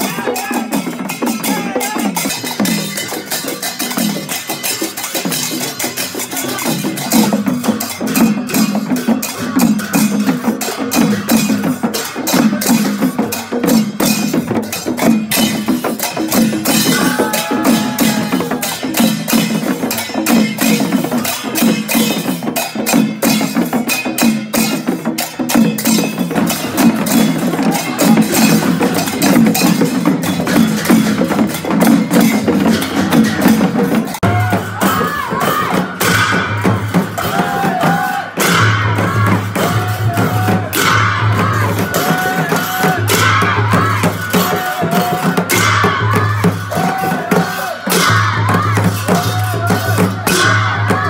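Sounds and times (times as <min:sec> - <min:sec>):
drums beating: 0:00.0 - 0:51.0
metal cymbals clashing: 0:00.0 - 0:51.0.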